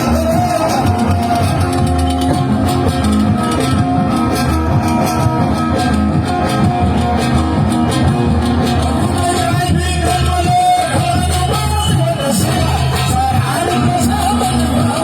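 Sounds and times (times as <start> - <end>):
live band playing instrumental: 0.0 - 15.0
plucked guitar melody: 0.0 - 15.0.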